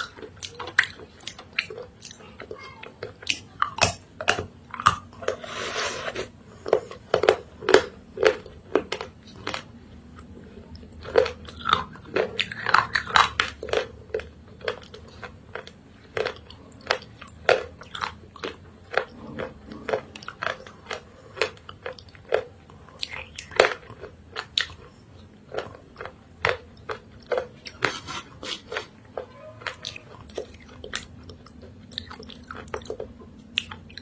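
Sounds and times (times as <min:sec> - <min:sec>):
chewing sounds: 0:00.0 - 0:34.0.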